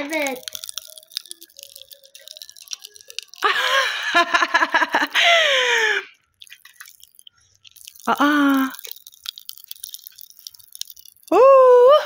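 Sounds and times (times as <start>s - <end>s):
popping candy crackling: 0.0s - 12.0s.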